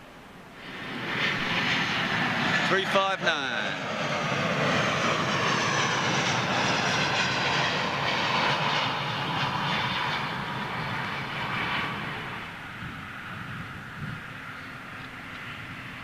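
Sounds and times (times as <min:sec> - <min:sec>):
jet airliner roaring past: 0:00.2 - 0:16.0.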